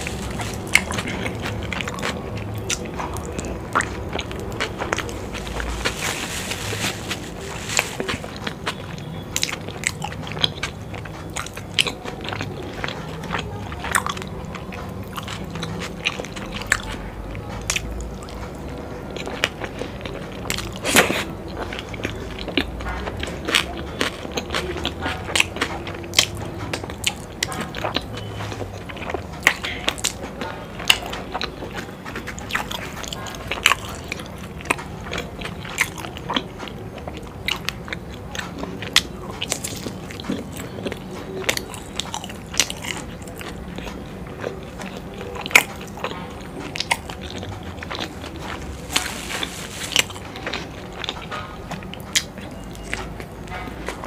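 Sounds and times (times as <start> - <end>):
close chewing with mouth smacks: 0.0 - 54.0.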